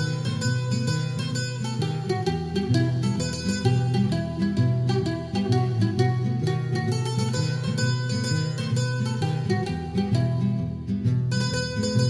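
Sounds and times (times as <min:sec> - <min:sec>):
plucked string notes: 0:00.0 - 0:12.0.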